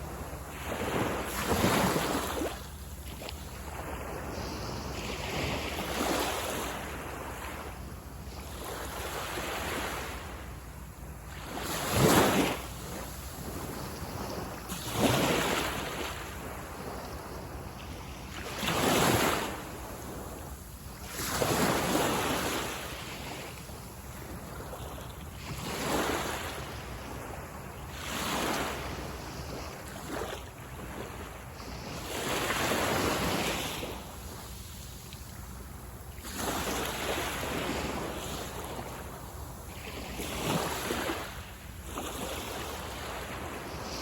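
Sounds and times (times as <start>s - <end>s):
low rush of sea: 0.0s - 44.0s
waves breaking on a beach: 0.0s - 44.0s.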